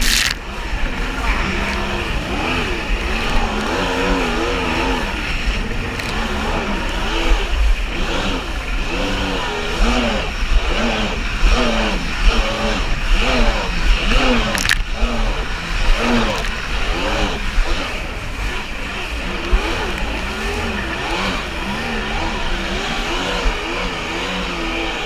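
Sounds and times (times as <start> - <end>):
jet ski engine running: 0.0 - 25.0.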